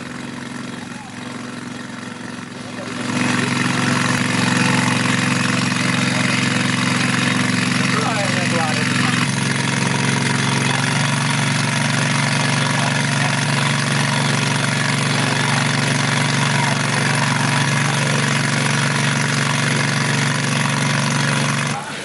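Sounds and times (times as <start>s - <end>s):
large engine humming: 0.0s - 22.0s.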